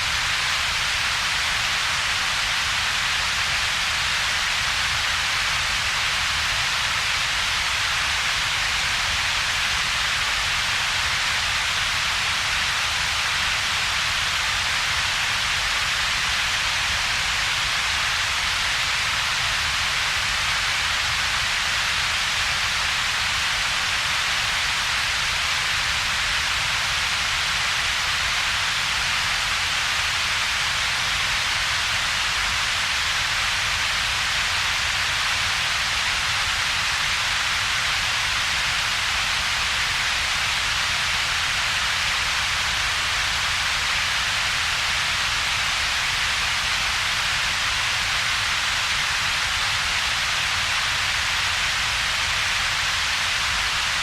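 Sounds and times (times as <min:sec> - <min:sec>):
synthetic hiss: 0:00.0 - 0:54.0.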